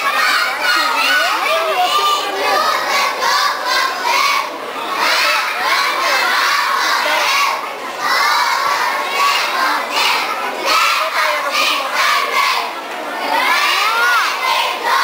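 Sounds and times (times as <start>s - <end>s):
children shouting together: 0.0s - 15.0s.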